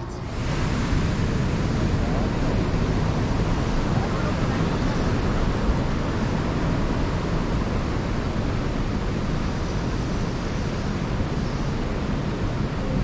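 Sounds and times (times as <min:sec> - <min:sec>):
river water rushing: 0:00.2 - 0:13.0.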